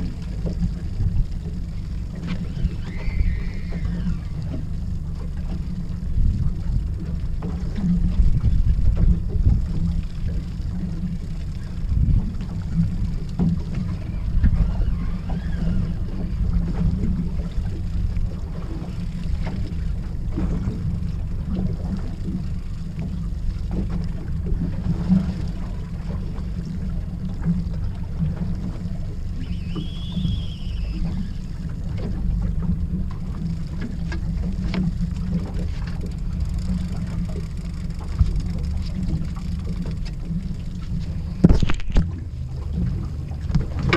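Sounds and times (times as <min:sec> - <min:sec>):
boat rumble: 0:00.0 - 0:43.9
wind buffeting microphone: 0:00.0 - 0:43.9.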